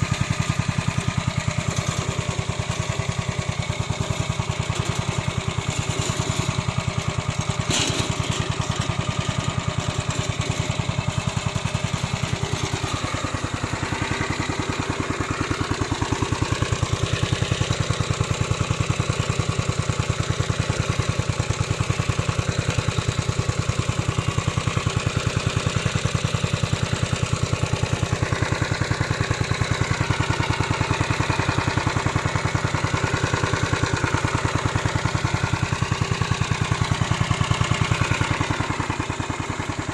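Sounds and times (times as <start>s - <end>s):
small lawn mower engine running: 0.0s - 39.9s.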